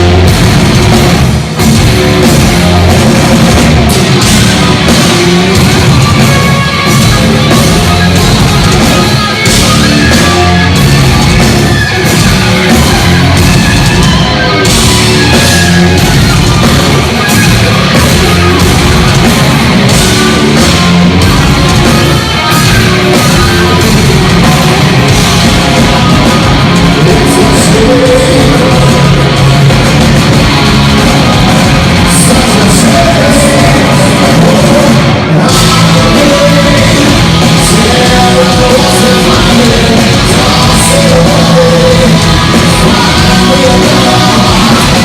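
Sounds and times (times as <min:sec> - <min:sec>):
heavy rock band playing live: 0:00.0 - 0:45.0.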